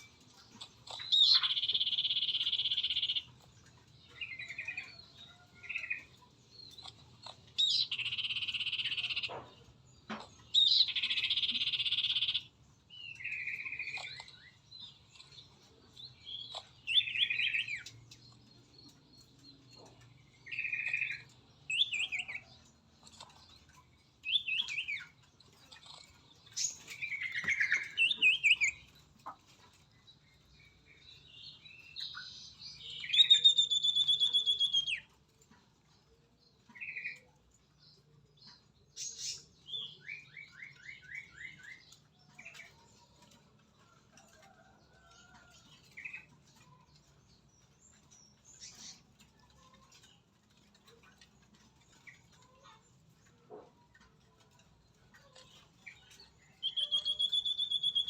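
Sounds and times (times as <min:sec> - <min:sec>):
bird chirps and trills: 0:00.0 - 0:58.0.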